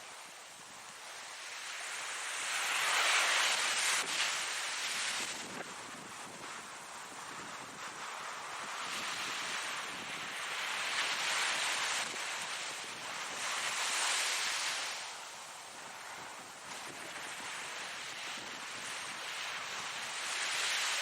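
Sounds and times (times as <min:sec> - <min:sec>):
hiss of surf: 0:00.0 - 0:21.0
ocean waves breaking: 0:01.0 - 0:21.0.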